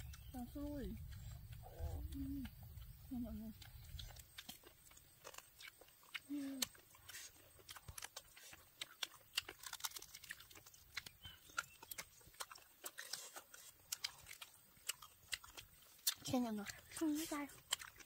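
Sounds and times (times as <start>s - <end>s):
person chewing with wet smacking: 0.0s - 18.0s.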